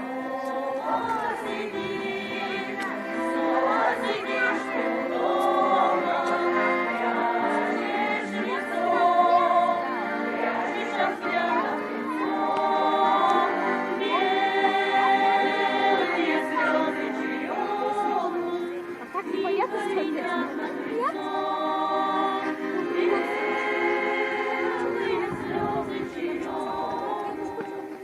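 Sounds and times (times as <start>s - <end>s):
folk choir singing: 0.0s - 28.0s.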